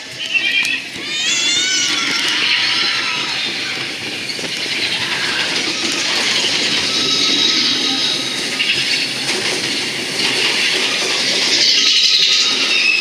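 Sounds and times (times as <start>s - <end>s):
coaster wheels rattling on rail: 0.0s - 13.0s.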